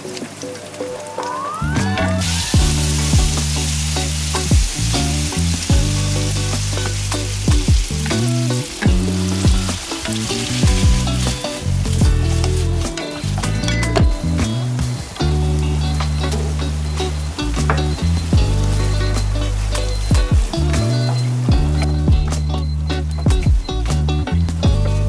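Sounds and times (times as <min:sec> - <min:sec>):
food sizzling in frying pan: 0:00.4 - 0:22.0
background music with bassline: 0:00.8 - 0:25.0.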